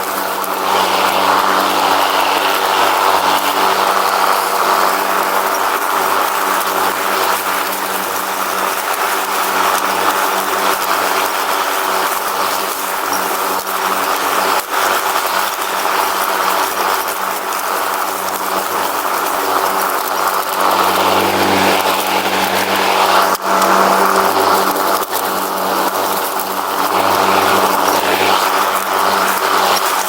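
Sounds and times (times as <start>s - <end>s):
riding lawn mower engine running: 0.0s - 30.0s.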